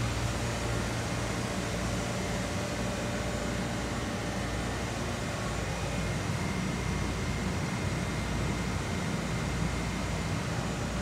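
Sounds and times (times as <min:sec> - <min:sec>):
engine room machinery drone: 0:00.0 - 0:11.0.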